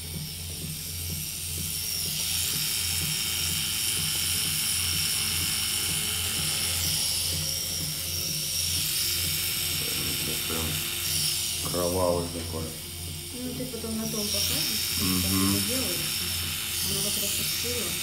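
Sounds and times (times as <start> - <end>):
tattoo machine humming: 0.0 - 18.0.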